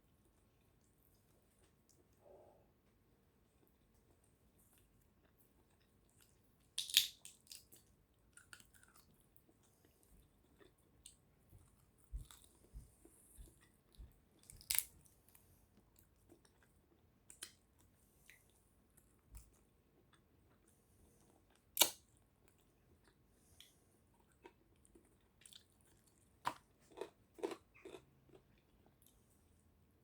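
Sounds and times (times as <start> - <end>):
person chewing food: 0.2 - 29.4.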